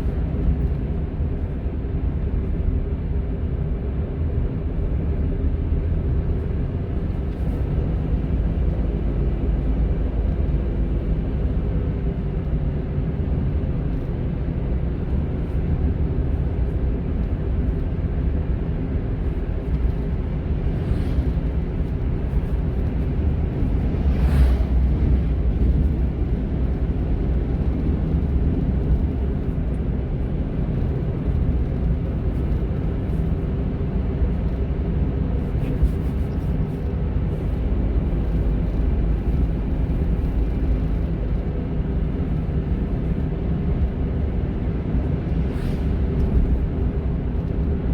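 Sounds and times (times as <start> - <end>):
car engine and road rumble: 0.0 - 47.9.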